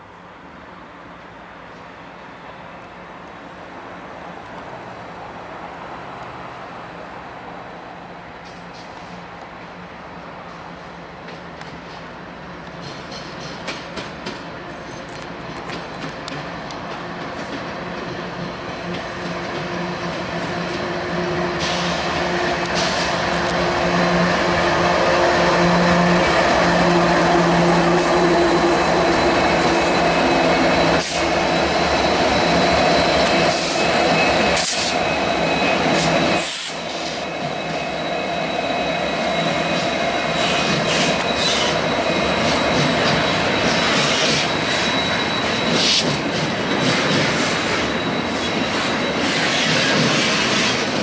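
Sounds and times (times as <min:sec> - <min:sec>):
diesel locomotive engines droning: 0:00.0 - 0:51.0
wheels rumbling on rail: 0:00.0 - 0:51.0.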